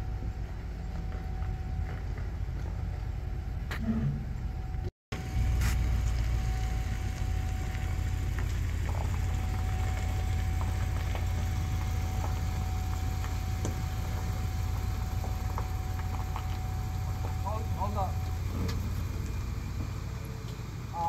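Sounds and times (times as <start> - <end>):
engine idling: 0.0 - 21.0
faint steady whine: 0.0 - 21.0.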